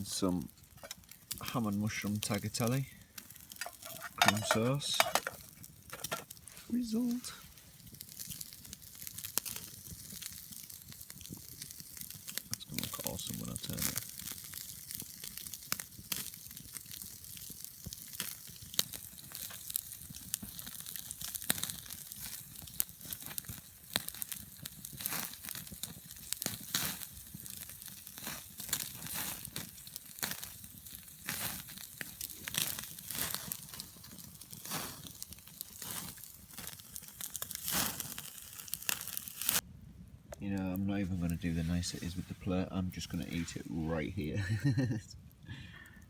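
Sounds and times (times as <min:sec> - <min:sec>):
steak sizzling over campfire: 0:00.0 - 0:39.6, 0:40.6 - 0:46.0.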